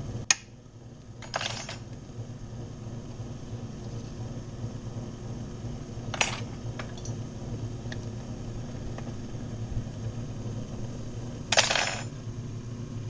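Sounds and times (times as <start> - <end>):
electric motor humming: 1.9 - 13.0.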